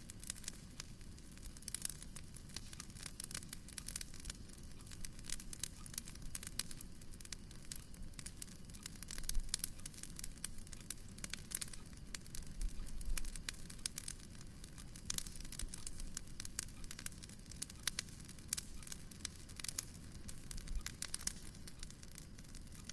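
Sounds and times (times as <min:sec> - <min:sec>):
low steady fire rumble: 0:00.0 - 0:22.9
wood fire crackling: 0:00.0 - 0:22.9.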